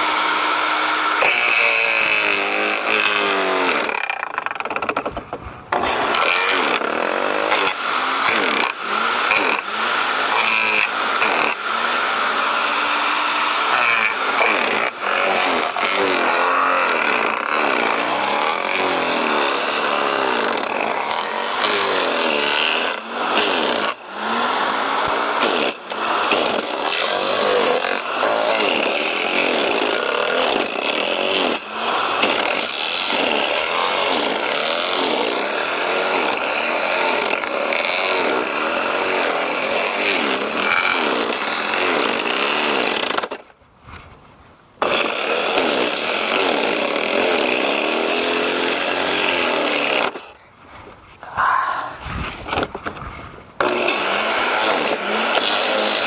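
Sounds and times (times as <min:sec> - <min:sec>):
garden shredder chewing branch: 0:00.0 - 0:44.2, 0:44.8 - 0:56.0.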